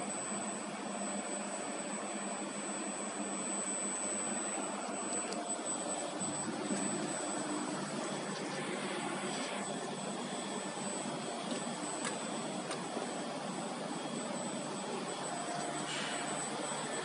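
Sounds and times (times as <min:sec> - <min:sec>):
high steady whine: 0:00.0 - 0:17.0
laser cutting machine humming: 0:00.0 - 0:17.0.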